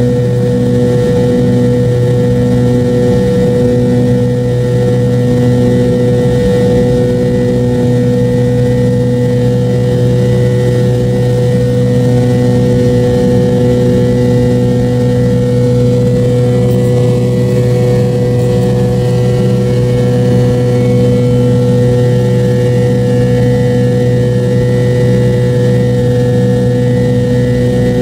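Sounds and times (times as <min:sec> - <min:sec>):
jet engine drone with whine: 0:00.0 - 0:28.0.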